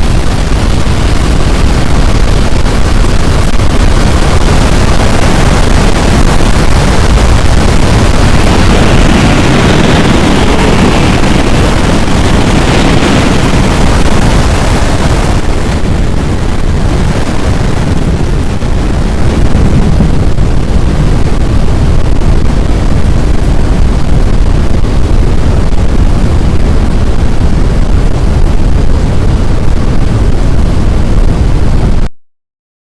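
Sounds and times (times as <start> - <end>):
wind buffeting microphone: 0.0 - 32.1.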